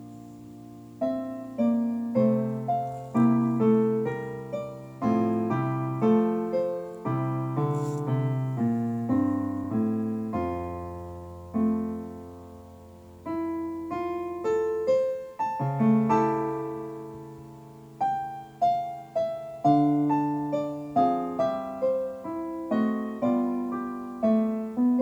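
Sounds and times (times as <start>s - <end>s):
slow solo piano music: 0.0s - 25.0s.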